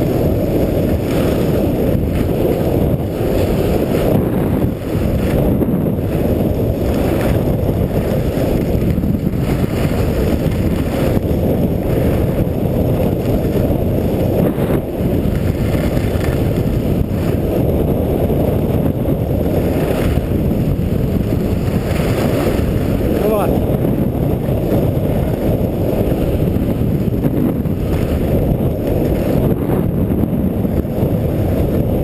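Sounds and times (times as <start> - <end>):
skis scraping on snow: 0.0 - 32.0
wind rushing on microphone: 0.0 - 32.0.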